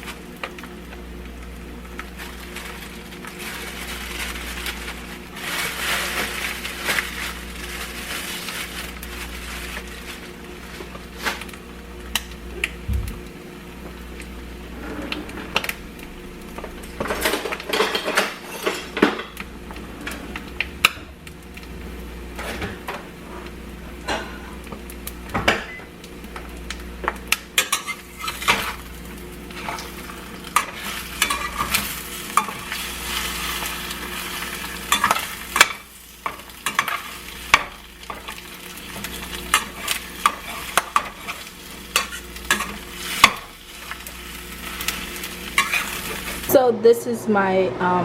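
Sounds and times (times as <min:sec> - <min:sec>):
eggs sizzling in a pan: 0:00.0 - 0:46.6.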